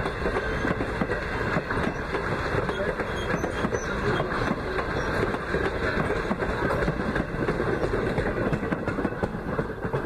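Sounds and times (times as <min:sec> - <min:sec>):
train wheels rolling on rails: 0:00.0 - 0:10.0.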